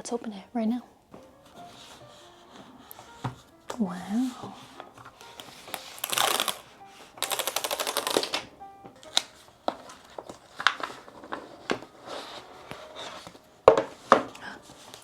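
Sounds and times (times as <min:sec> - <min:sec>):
package rustling: 0:02.9 - 0:15.0.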